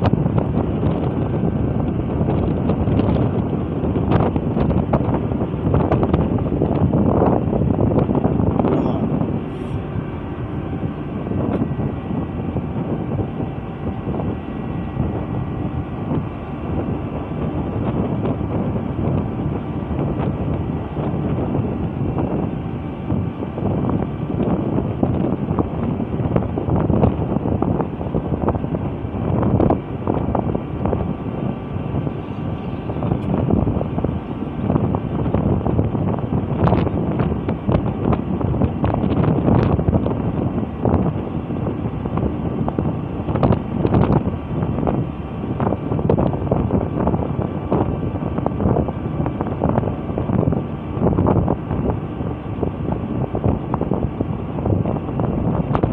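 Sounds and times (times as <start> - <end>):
faint whining tones: 0.0 - 55.9
steady low drone: 0.0 - 55.9
wind buffeting microphone: 0.0 - 55.9.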